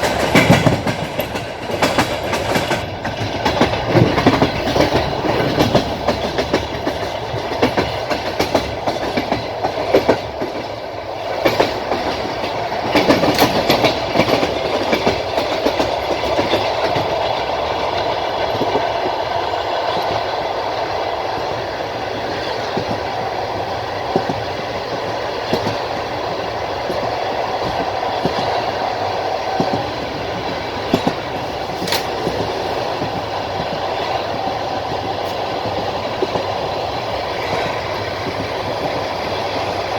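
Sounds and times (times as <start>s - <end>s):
train rolling rumble: 0.0s - 39.9s
train wheels clacking over rail joints: 0.0s - 39.9s.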